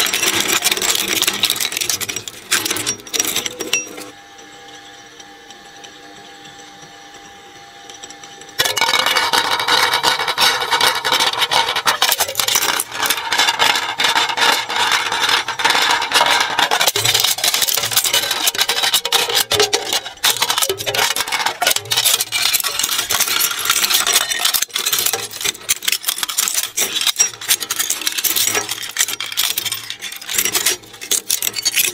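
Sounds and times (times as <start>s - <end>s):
shredder crunching a plate: 0.0s - 4.1s, 8.6s - 31.9s.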